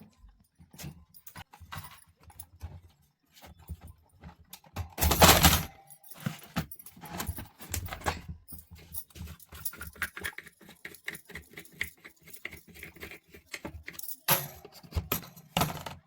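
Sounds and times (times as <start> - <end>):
fan parts clicking and rattling: 0.2 - 16.0.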